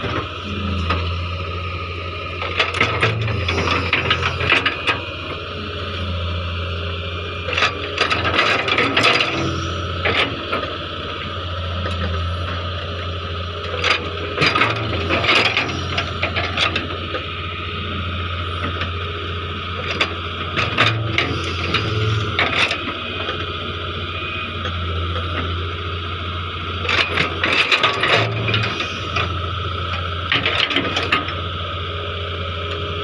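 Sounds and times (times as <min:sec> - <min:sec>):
excavator clattering and scraping: 0:00.0 - 0:33.0
excavator diesel engine running: 0:00.0 - 0:33.0.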